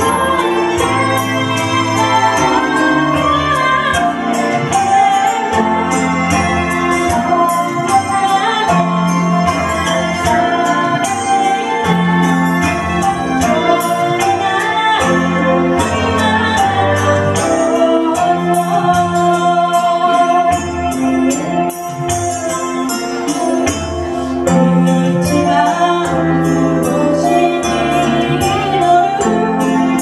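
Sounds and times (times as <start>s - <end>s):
women singing: 0.0s - 21.6s, 24.3s - 30.0s.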